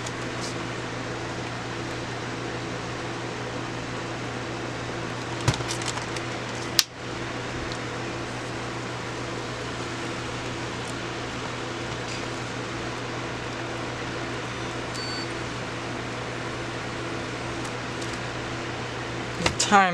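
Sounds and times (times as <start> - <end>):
room noise hum: 0.0 - 19.9.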